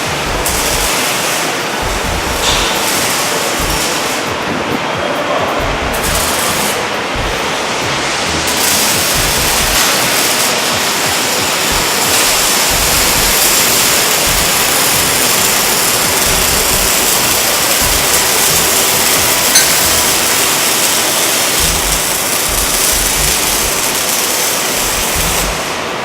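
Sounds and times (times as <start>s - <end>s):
welding arc hissing and crackling: 0.0s - 26.0s.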